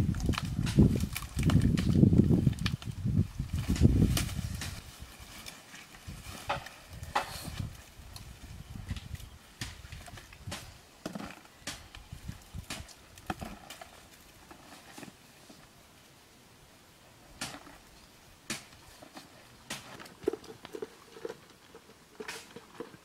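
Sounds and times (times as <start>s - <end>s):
sticks and leaves crackling: 0.0s - 15.9s, 17.3s - 23.0s.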